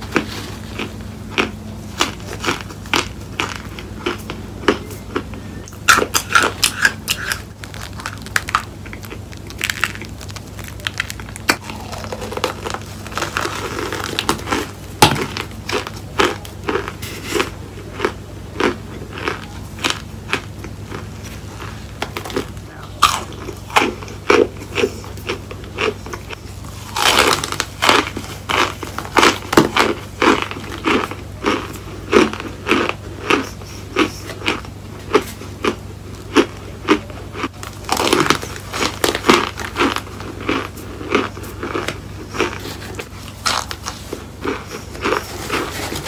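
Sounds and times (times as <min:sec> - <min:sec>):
crunching and chewing: 0:00.0 - 0:46.0.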